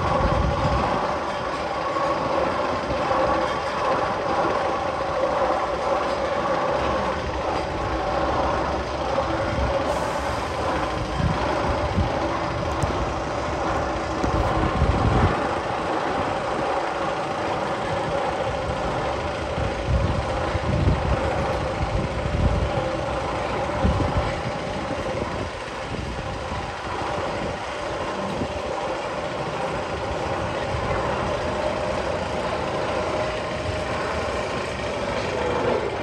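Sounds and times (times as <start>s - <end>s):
constant hum: 0.0s - 36.0s
mechanical rumble: 0.0s - 36.0s.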